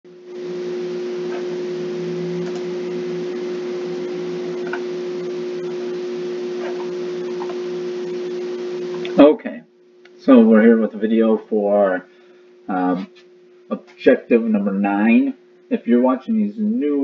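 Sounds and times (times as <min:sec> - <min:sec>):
electrical hum: 0:00.1 - 0:17.0.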